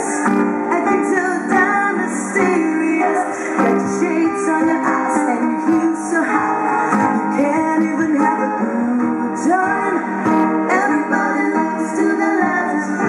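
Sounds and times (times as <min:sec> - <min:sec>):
strummed acoustic guitar: 0:00.0 - 0:13.0
woman singing: 0:00.0 - 0:13.0.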